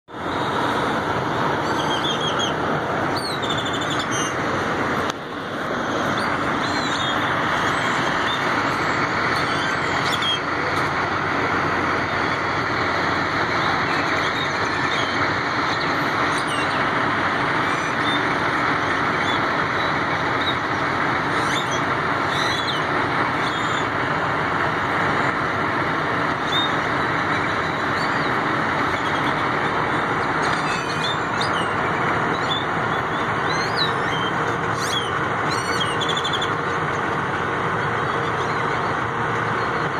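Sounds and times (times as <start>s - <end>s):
trucks idling: 0.0s - 39.9s
flock of birds chirping: 0.1s - 39.9s.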